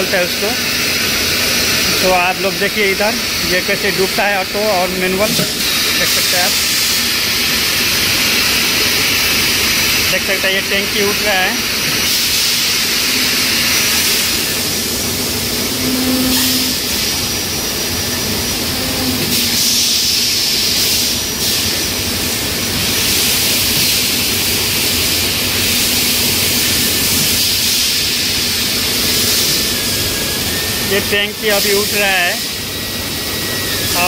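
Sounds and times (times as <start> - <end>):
machinery running with hiss: 0.0 - 34.0.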